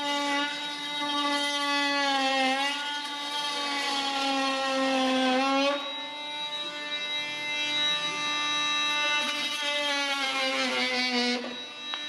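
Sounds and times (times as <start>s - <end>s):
oscillating multitool cutting wood: 0.0s - 12.0s.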